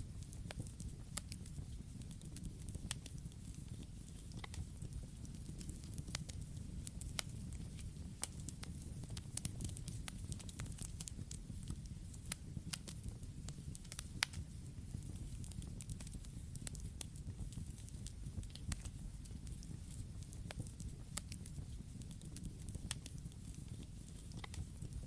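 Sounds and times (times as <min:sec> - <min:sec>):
campfire crackling and popping: 0:00.0 - 0:25.0
low rumble of burning wood: 0:00.0 - 0:25.0.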